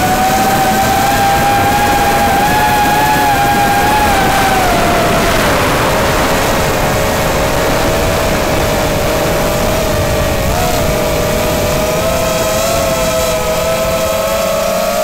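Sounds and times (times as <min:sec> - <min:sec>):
drone motors whining: 0:00.0 - 0:15.0
steady rushing noise: 0:00.0 - 0:15.0.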